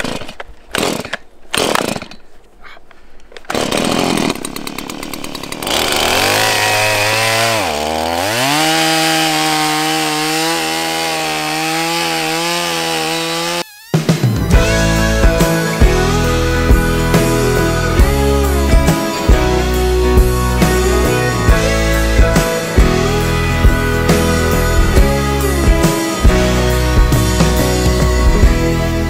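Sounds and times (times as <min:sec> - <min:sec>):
chainsaw cutting log: 0:00.0 - 0:02.4, 0:03.4 - 0:29.0.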